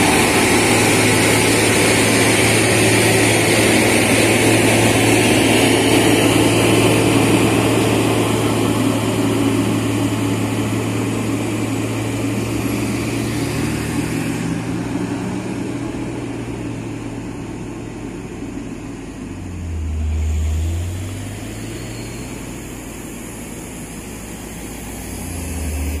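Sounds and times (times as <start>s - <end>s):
truck diesel engine under load: 0.0s - 26.0s.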